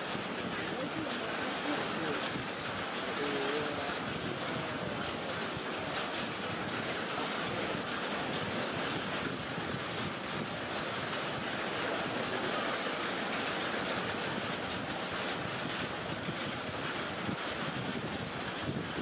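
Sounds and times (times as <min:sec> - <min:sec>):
heavy rain on a lake and trees: 0:00.0 - 0:19.0.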